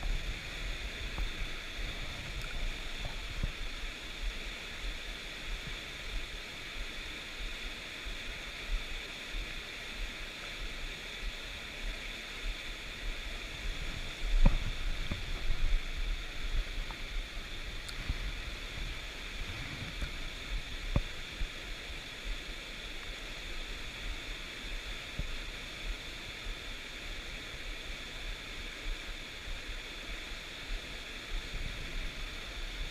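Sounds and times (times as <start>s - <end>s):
stream water rushing: 0.0s - 32.9s.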